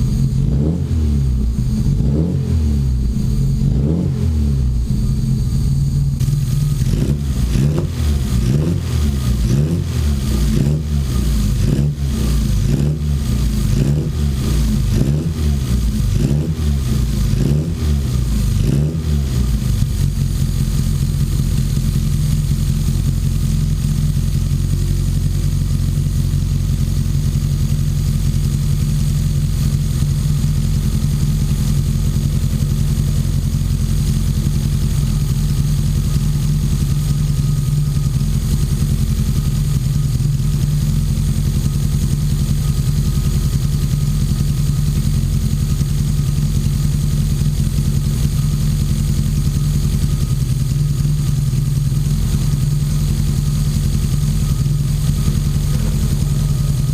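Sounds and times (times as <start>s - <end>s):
car engine revving and idling: 0.0s - 56.9s.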